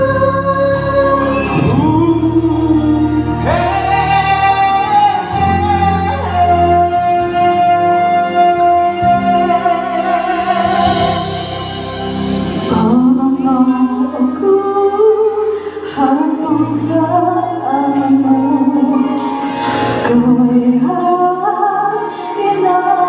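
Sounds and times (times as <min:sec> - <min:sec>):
duet ballad singing: 0:00.0 - 0:23.0
instrumental backing: 0:00.0 - 0:23.0.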